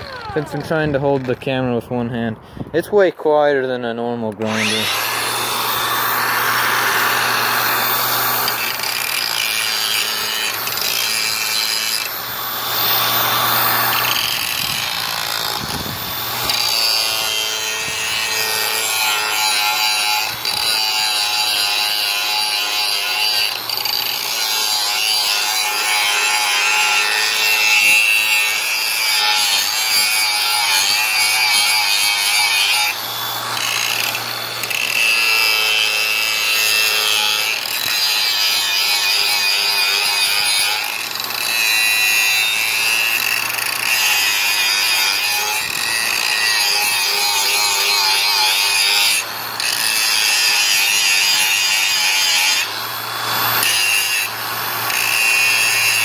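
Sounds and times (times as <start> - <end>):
angle grinder grinding: 4.3 - 56.0.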